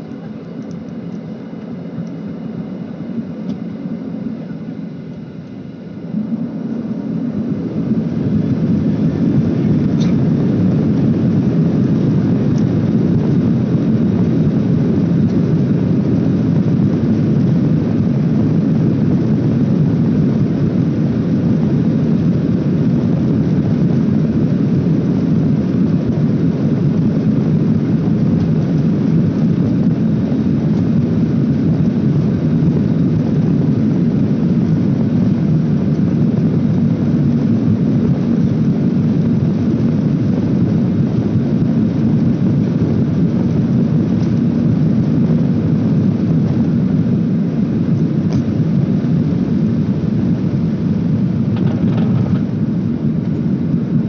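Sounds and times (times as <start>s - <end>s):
jet engines heard from cabin: 0.0s - 54.0s.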